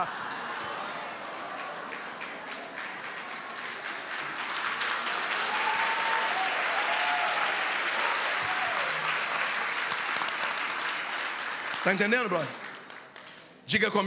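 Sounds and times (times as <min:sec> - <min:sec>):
congregation applauding: 0:00.0 - 0:14.0.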